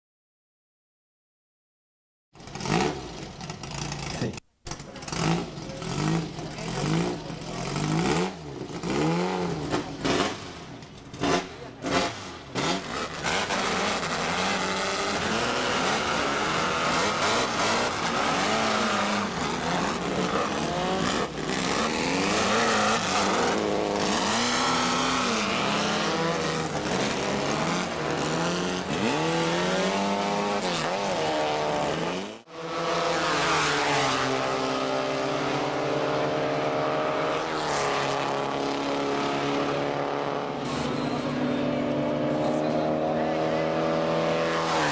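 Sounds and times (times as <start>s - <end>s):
race car engines revving: 2.4s - 44.9s.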